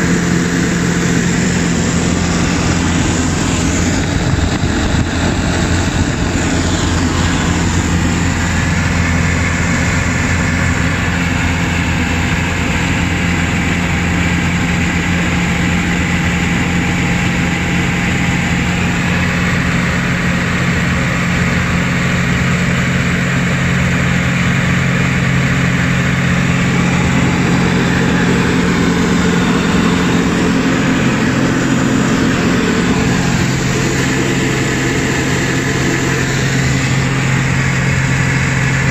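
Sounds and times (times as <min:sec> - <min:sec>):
aircraft engine and propeller droning: 0:00.0 - 0:38.9.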